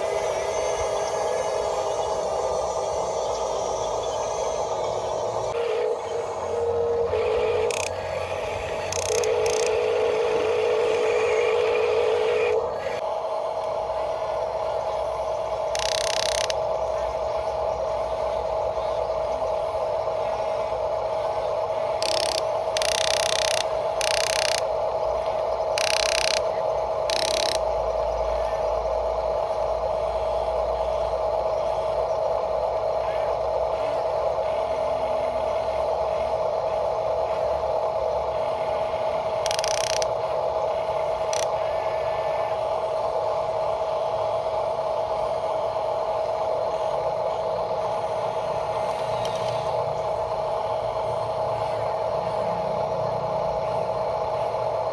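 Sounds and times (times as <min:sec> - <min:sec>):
gear motors whirring and grinding: 0:00.0 - 0:54.9
steady whine: 0:00.0 - 0:54.9.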